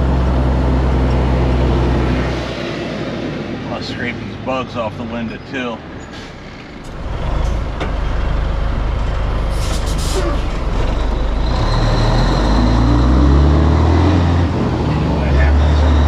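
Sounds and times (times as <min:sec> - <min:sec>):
diesel truck engine accelerating: 0:00.0 - 0:16.0.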